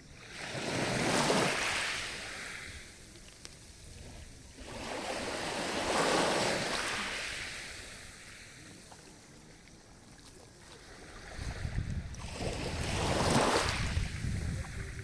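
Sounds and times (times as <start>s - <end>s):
sea waves on the shore: 0.0s - 15.0s.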